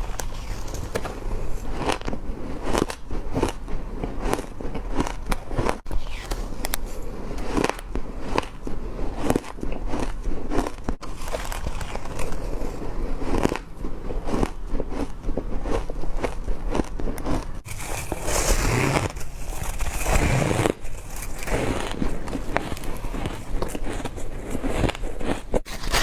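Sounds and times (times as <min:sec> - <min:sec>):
person chewing crushed ice: 0:00.0 - 0:26.0.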